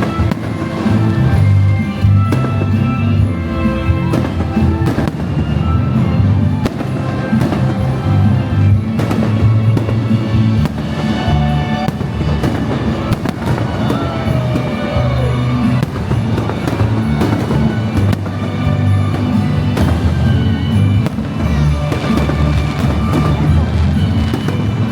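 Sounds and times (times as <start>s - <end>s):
fireworks bangs: 0.0s - 24.9s.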